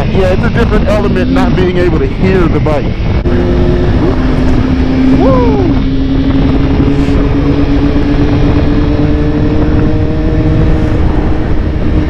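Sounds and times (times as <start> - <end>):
motorcycle engine drone: 0.0 - 12.0
wind rumble on microphone: 0.0 - 12.0.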